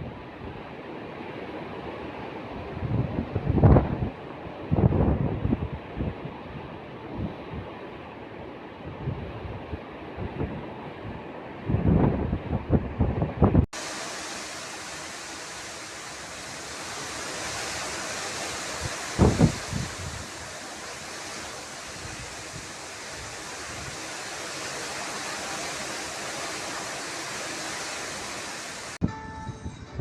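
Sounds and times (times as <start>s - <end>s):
ocean surf on shore: 0.0s - 30.0s.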